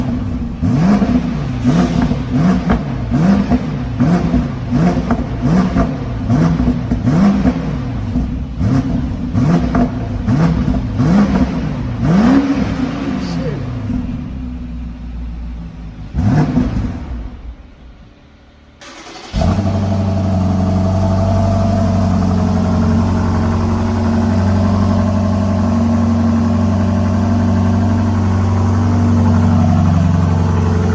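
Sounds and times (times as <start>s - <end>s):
car engine idling: 0.0s - 30.9s
car engine revving: 0.0s - 30.9s
car engine starting: 0.0s - 30.9s.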